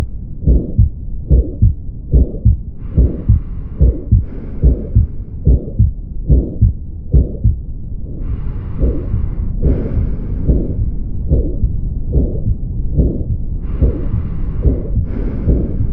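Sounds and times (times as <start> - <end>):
heartbeat: 0.0 - 15.9.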